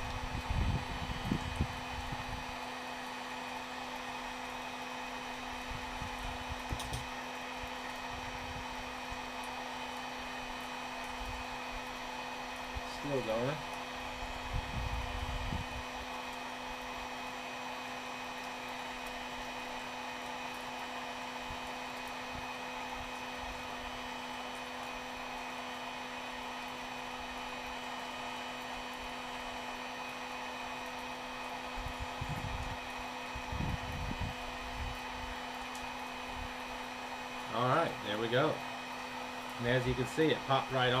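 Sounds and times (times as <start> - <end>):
heat gun fan whirring: 0.0 - 41.0.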